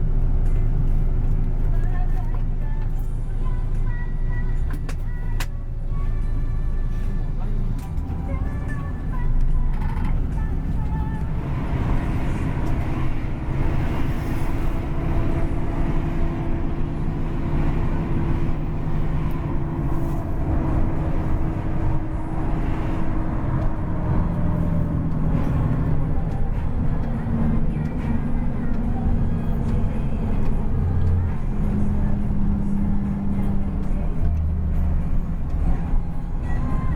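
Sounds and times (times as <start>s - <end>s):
bus engine and road rumble: 0.0s - 36.9s.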